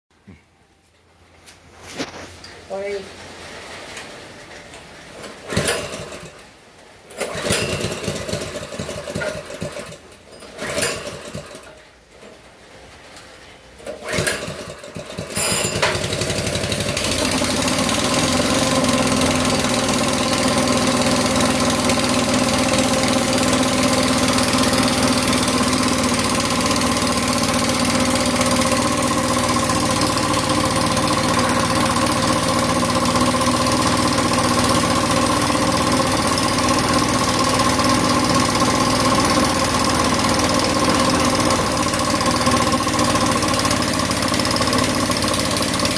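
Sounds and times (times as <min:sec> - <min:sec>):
small petrol engine cranking and running: 0:05.2 - 0:06.5, 0:07.1 - 0:12.4, 0:13.8 - 0:45.9.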